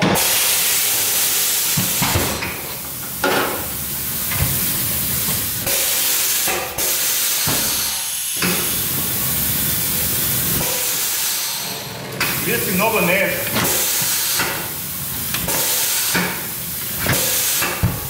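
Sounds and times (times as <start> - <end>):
compressed air hissing: 0.1 - 18.0.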